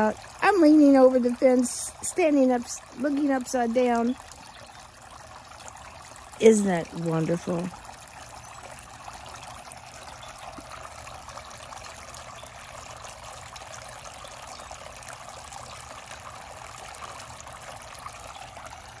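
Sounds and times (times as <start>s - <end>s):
fountain water trickling and splashing: 0.0s - 19.0s.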